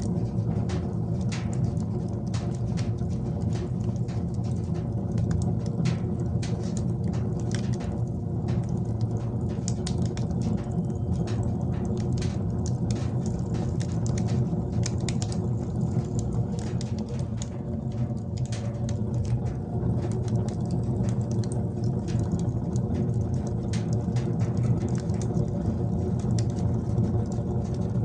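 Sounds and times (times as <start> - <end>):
steady low hum: 0.0 - 28.0
wood fire crackling in stove: 0.0 - 28.0.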